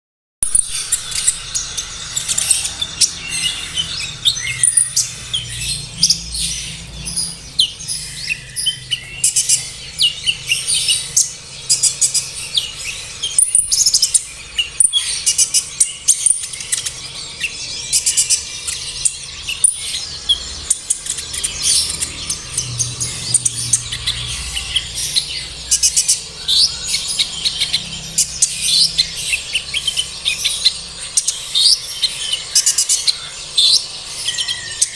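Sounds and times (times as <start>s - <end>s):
bird chirping and trilling: 0.4s - 34.9s.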